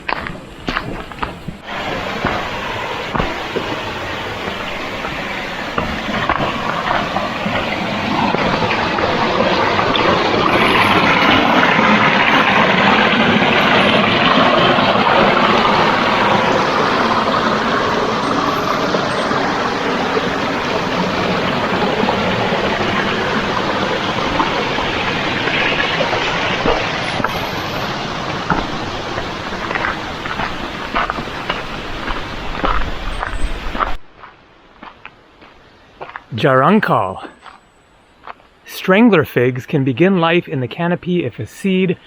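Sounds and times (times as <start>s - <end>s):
rushing creek water: 0.0s - 37.6s.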